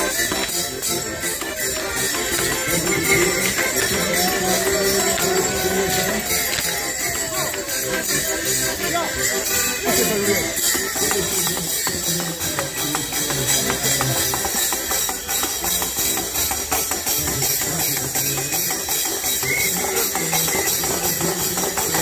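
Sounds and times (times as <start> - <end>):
jingling rattling percussion: 0.0 - 22.0.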